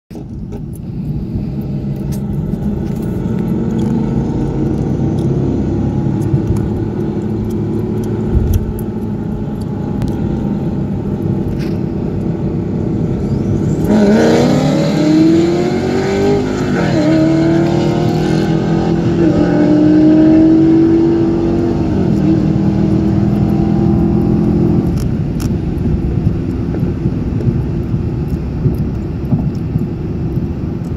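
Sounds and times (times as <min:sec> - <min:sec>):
car engine accelerating: 0:00.1 - 0:30.9
road noise inside car: 0:00.1 - 0:30.9.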